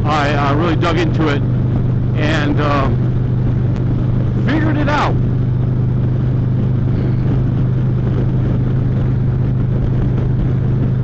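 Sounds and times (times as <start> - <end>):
motorcycle engine drone: 0.0 - 11.0
wind and road noise: 0.0 - 11.0.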